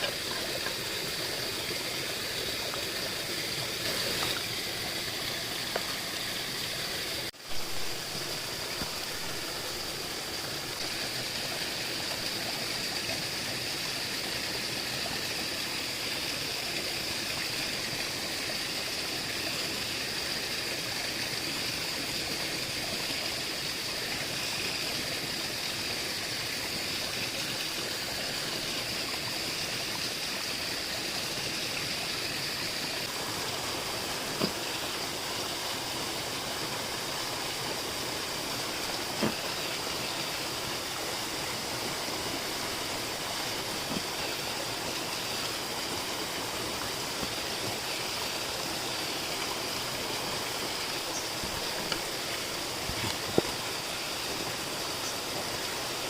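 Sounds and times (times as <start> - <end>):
flowing stream rushing: 0.0 - 56.0.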